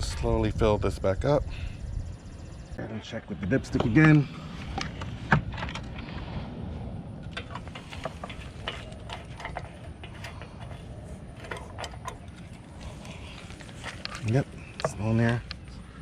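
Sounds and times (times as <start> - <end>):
generator low rumble: 0.0 - 16.0.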